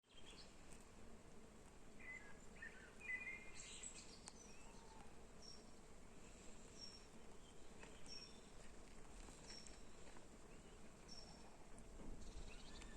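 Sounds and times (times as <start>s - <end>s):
faint birds chirping: 0.0s - 0.6s, 1.9s - 12.9s
low steady hiss: 0.1s - 12.9s.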